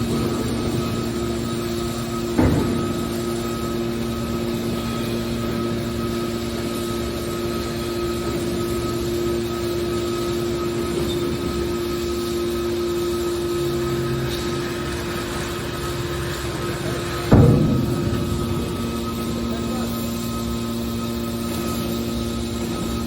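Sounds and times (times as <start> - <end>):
baler machine hum: 0.0 - 23.0
faint high whine: 0.0 - 23.0.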